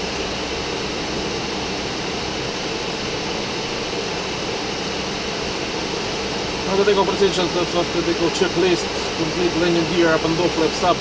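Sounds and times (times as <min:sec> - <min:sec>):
steady cockpit airflow rushing: 0:00.0 - 0:11.0.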